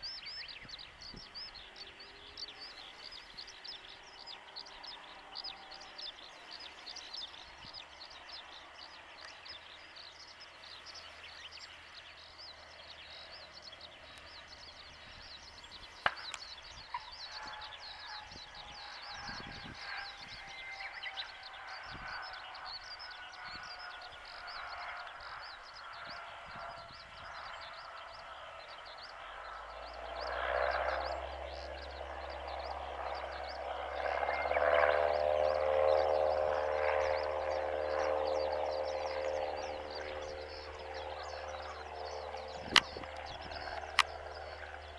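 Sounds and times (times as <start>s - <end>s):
birds chirping: 0.0s - 44.9s
propeller aircraft droning: 0.0s - 44.9s.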